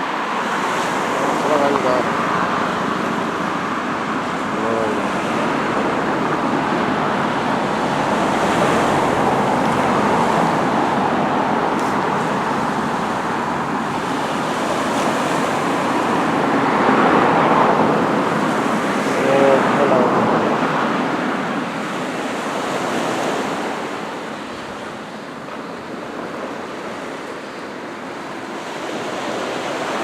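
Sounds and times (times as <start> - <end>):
road traffic: 0.0 - 30.0
small waves washing on shore: 0.0 - 30.0.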